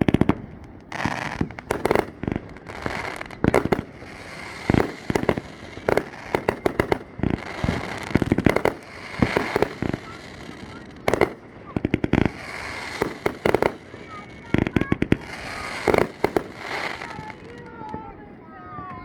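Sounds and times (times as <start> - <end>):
crackling hiss: 0.0 - 18.1
fireworks bangs and pops: 0.0 - 19.0.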